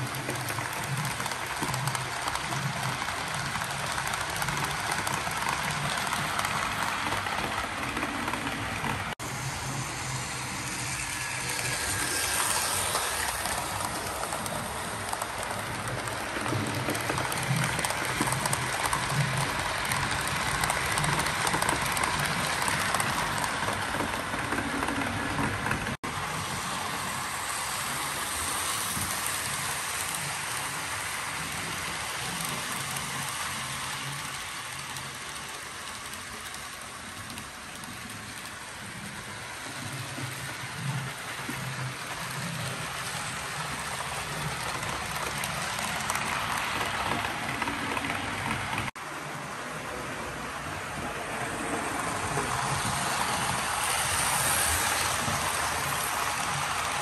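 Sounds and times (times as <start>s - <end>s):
model train rattling on track: 0.0s - 57.0s.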